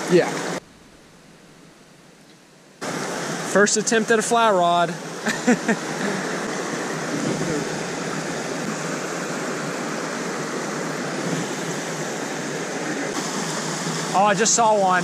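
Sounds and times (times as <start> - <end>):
stream running over rocks: 2.8 - 15.0.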